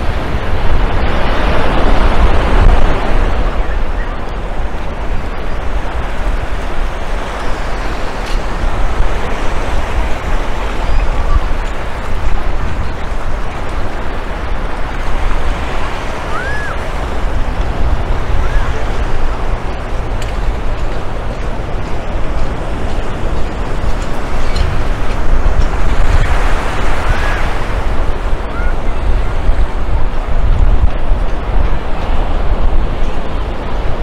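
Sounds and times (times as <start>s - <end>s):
surf on a beach: 0.0s - 34.0s
wind rumble on microphone: 0.0s - 34.0s.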